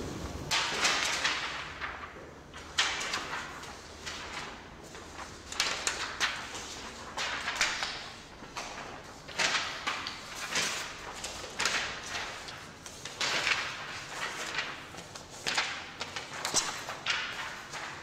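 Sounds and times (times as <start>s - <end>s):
paper sliding over floor: 0.0s - 18.0s.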